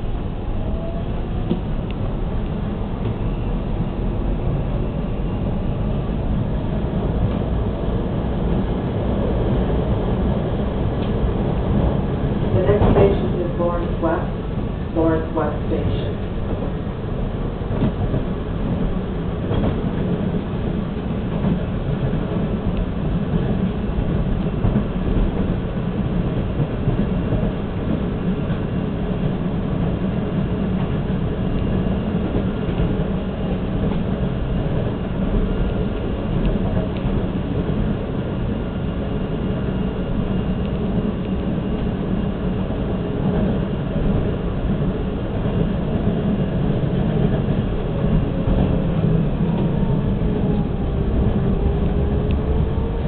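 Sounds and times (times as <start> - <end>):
subway train rumble: 0.0 - 53.0.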